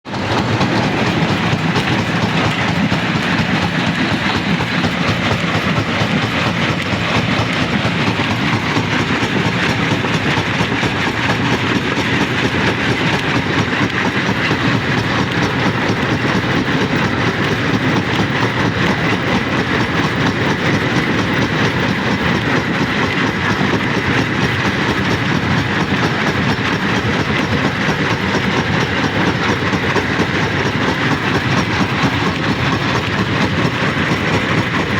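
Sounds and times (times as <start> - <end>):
rock crusher grinding stone: 0.1 - 34.9.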